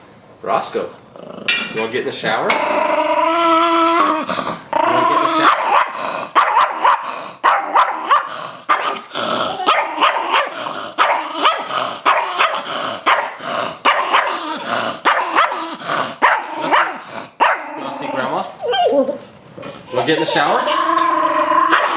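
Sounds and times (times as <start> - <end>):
small dog barking and growling: 2.5 - 19.2, 19.9 - 21.9.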